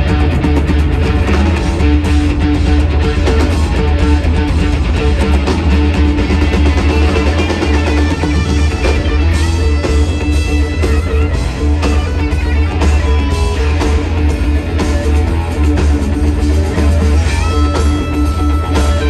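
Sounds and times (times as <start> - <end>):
booming bass: 0.0 - 19.0
electric guitar lines: 0.0 - 19.0
rock band playing live: 0.0 - 19.0
steady drum beat: 0.0 - 19.0.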